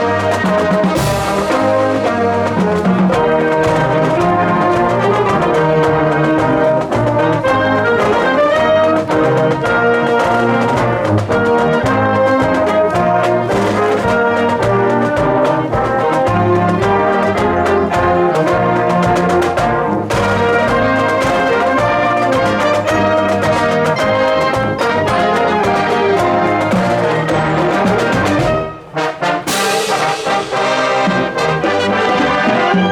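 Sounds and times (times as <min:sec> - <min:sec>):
brass instruments playing tune: 0:00.0 - 0:32.9
steady drum beat: 0:00.0 - 0:32.9.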